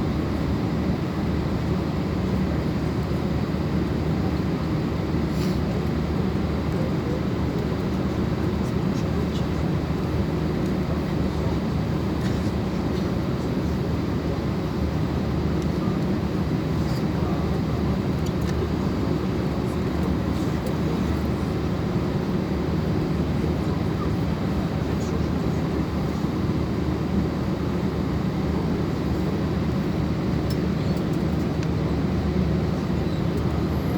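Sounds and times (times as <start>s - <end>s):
airliner cabin drone: 0.0s - 33.9s.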